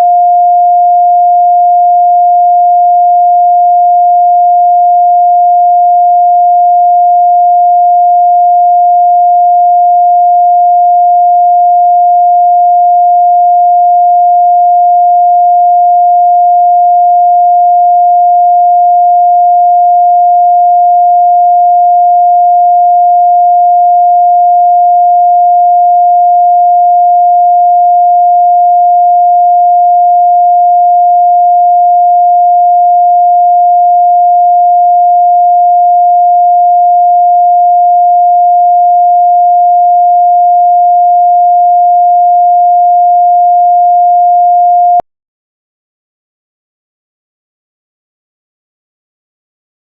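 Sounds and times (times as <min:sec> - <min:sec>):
sine-wave test tone: 0:00.0 - 0:45.1.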